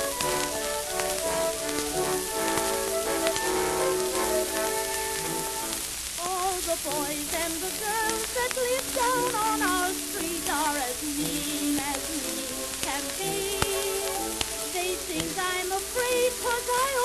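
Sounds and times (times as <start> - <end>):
old phonograph instrumental music: 0.0 - 17.0
record surface hiss and crackle: 0.0 - 17.0.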